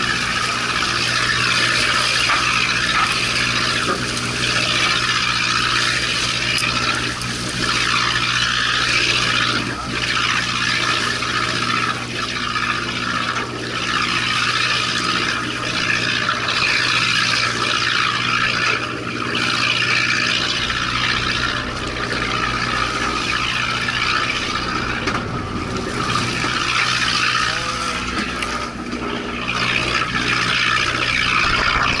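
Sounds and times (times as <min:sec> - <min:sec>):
boat engine hum: 0:00.0 - 0:32.0
sea water rushing along hull: 0:00.0 - 0:32.0.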